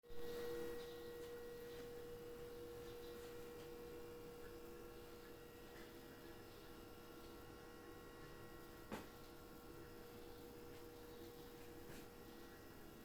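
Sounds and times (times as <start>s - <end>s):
faint steady humming tone: 0.0s - 13.0s.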